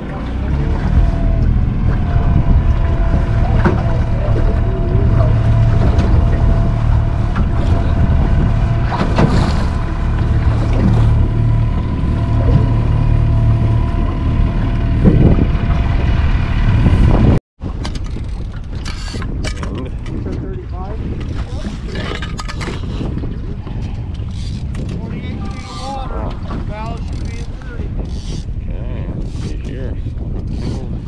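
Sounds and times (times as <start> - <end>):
boat motor running: 0.0 - 31.0
wind buffeting microphone: 0.0 - 31.0.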